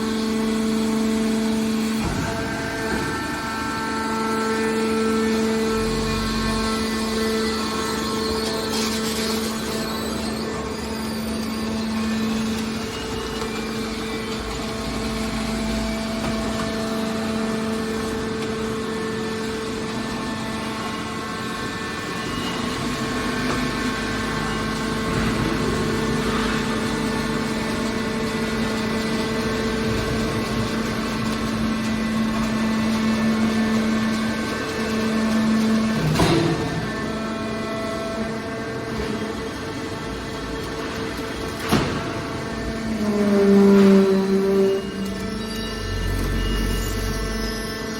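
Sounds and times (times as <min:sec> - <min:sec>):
hydraulic power unit humming: 0:00.0 - 0:47.9.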